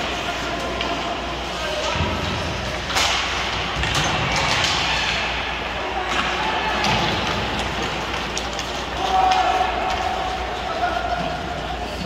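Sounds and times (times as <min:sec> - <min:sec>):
hockey sticks and puck cracks: 0:00.0 - 0:12.0.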